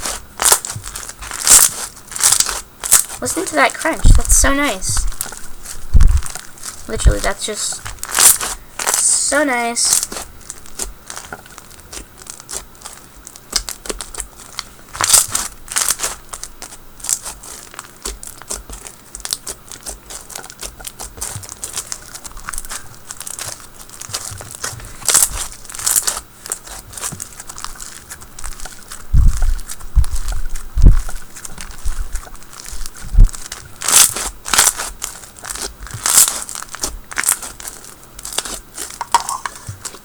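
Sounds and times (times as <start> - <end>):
slime crackling and popping: 0.0 - 40.0.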